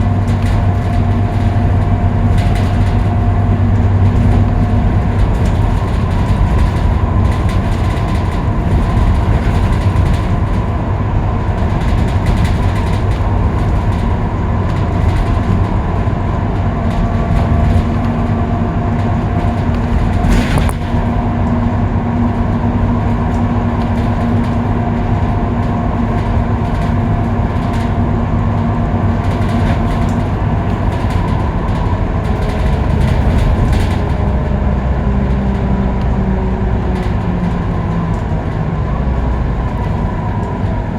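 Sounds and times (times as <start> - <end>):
bus engine drone: 0.0 - 40.9
road noise: 0.0 - 40.9.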